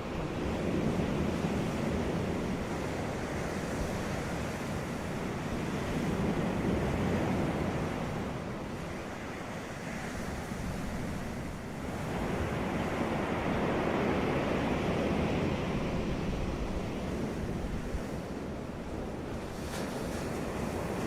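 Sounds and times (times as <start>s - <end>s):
ocean waves on a beach: 0.0s - 21.0s.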